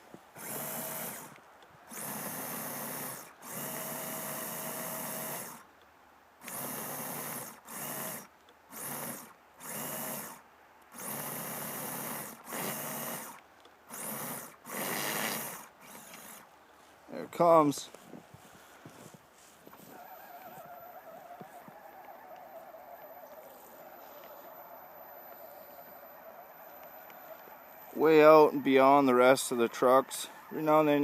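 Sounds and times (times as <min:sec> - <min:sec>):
electric motor whining: 0:00.3 - 0:05.6, 0:06.4 - 0:16.5, 0:19.6 - 0:31.0.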